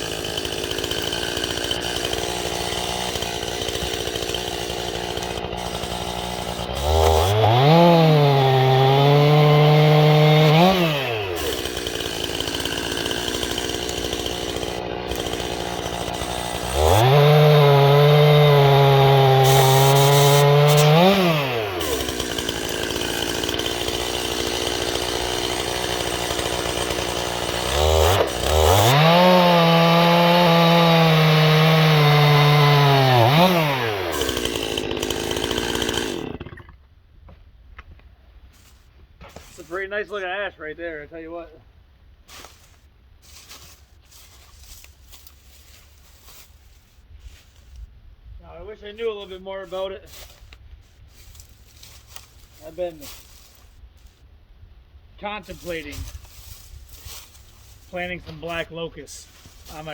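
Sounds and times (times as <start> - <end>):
chainsaw cutting wood: 0.0 - 36.8, 38.6 - 40.2, 42.3 - 47.9, 48.7 - 54.3, 55.2 - 59.9.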